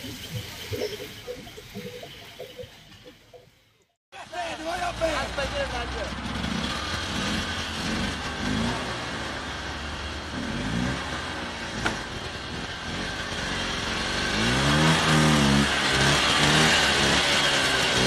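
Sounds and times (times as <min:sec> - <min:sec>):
engine running and revving: 0:00.0 - 0:02.7, 0:04.6 - 0:18.0.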